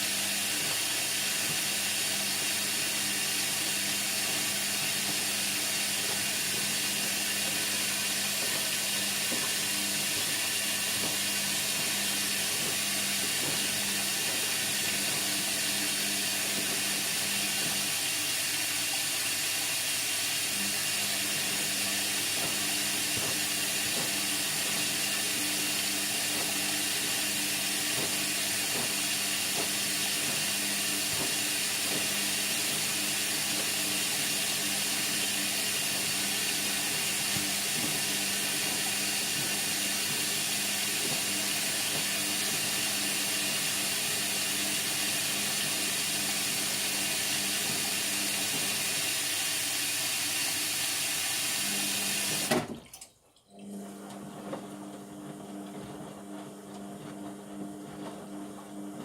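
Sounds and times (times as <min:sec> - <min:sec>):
washing machine running: 0:00.0 - 0:59.0.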